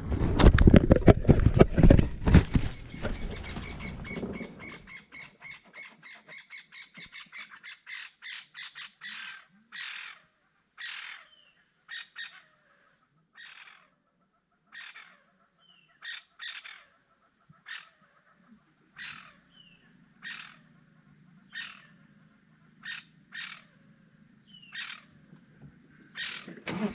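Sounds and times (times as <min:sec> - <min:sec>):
bird cawing: 0:02.3 - 0:14.0, 0:16.0 - 0:25.4, 0:26.0 - 0:26.9.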